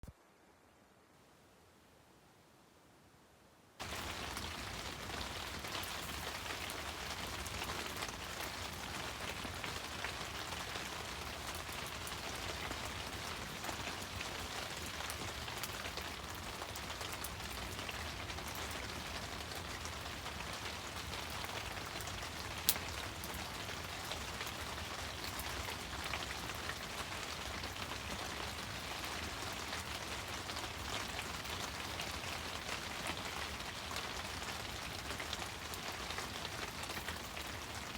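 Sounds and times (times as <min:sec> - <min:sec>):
wood fire crackling: 0:03.8 - 0:37.9.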